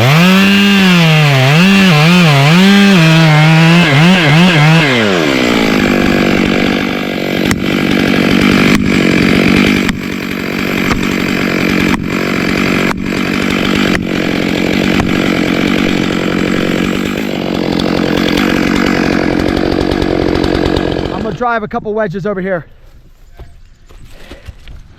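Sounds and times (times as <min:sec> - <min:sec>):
chainsaw cutting tree trunk: 0:00.0 - 0:21.6.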